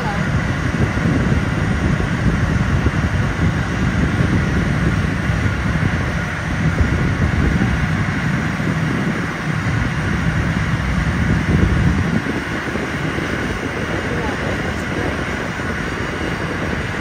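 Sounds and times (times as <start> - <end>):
aircraft engines rumbling: 0.0 - 17.0
faint engine whine: 0.0 - 17.0.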